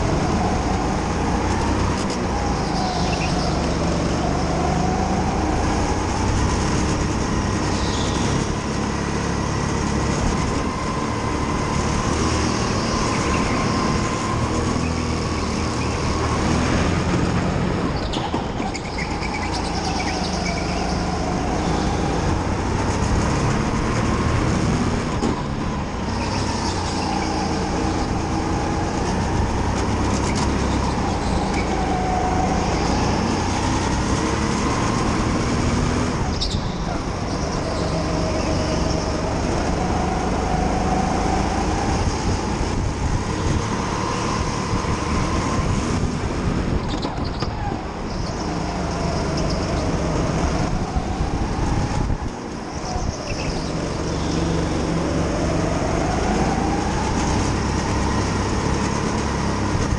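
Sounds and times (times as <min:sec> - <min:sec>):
go-kart engine running hard: 0:00.0 - 0:59.9
road and wind noise: 0:00.0 - 0:59.9.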